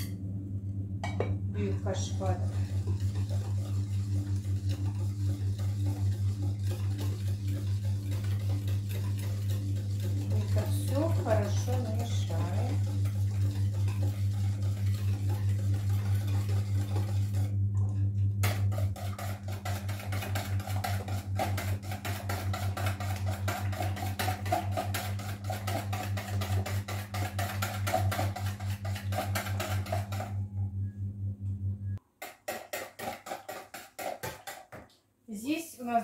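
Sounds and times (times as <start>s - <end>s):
steady low hum: 0.0s - 32.0s
whisk ticking against bowl: 2.2s - 17.4s, 18.4s - 30.4s, 32.2s - 35.0s.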